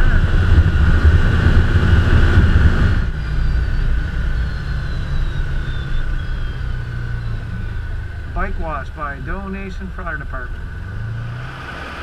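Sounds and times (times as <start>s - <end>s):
vehicle engine rumble with whine: 0.0s - 12.0s.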